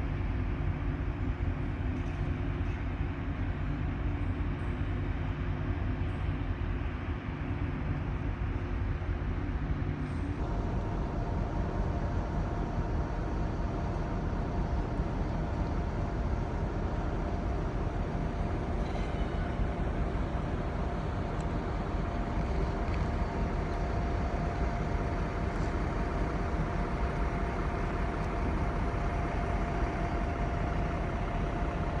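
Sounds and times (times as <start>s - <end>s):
low machinery rumble: 0.0s - 32.0s
mid-pitched hum: 0.0s - 32.0s.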